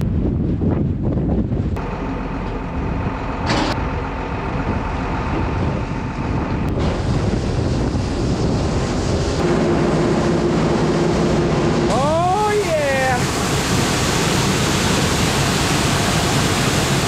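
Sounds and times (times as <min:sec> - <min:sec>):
wind on microphone: 0:00.0 - 0:01.9, 0:02.7 - 0:17.0
farm machinery engine running: 0:01.8 - 0:17.0.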